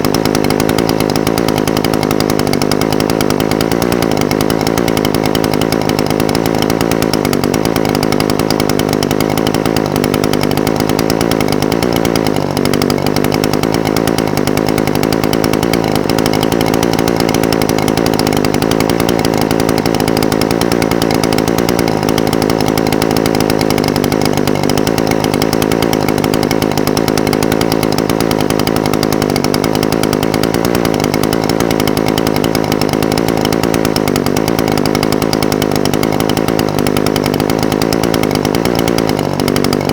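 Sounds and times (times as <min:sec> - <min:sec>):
brush cutter engine idling: 0:00.0 - 0:39.9.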